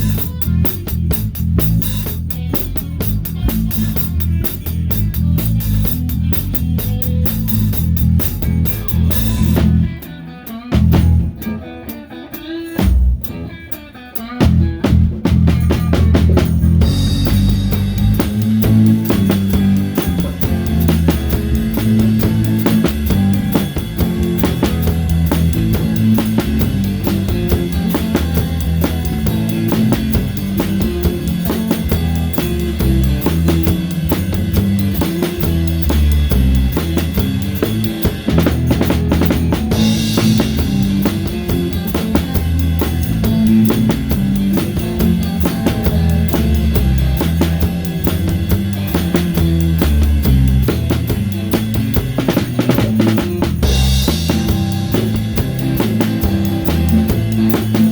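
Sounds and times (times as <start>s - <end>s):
bass drum and snare beat: 0.0s - 10.1s, 10.7s - 11.5s, 14.4s - 57.9s
bass line: 0.0s - 10.1s, 10.7s - 11.6s, 14.4s - 57.9s
live rock band playing: 0.0s - 57.9s.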